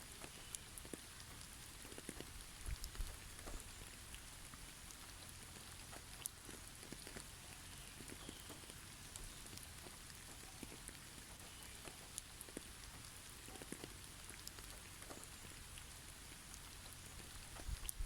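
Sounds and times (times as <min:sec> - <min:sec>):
drips ticking on snow: 0:00.0 - 0:18.0
low steady hiss: 0:00.0 - 0:18.0.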